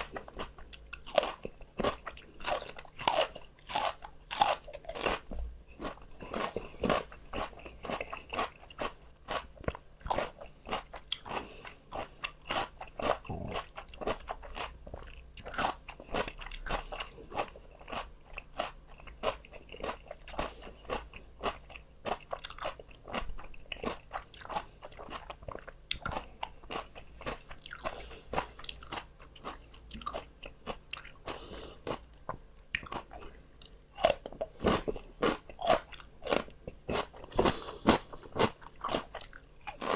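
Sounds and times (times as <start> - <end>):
crunching raw vegetables: 0.0 - 39.9.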